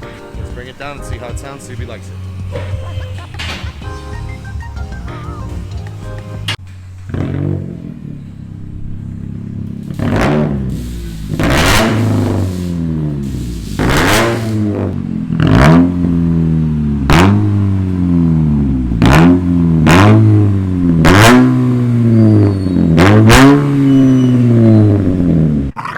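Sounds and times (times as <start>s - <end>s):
car engine revving: 0.4s - 25.8s.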